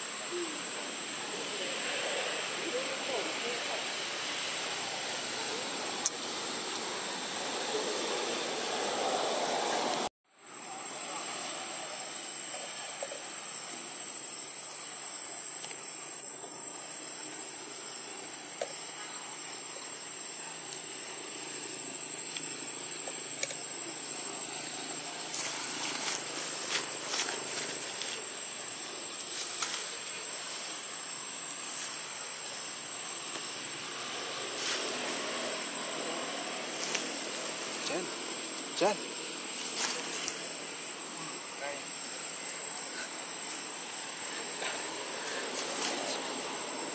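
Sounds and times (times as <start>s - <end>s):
high-pitched hiss: 0.0s - 46.9s.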